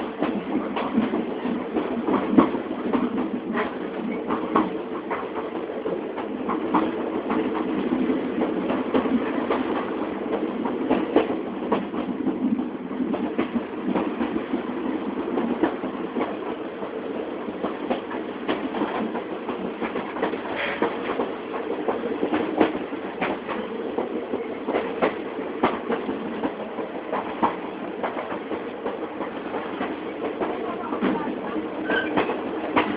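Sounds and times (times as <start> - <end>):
train rumbling on tracks: 0.0 - 32.9
wheels clacking on rails: 0.0 - 32.9.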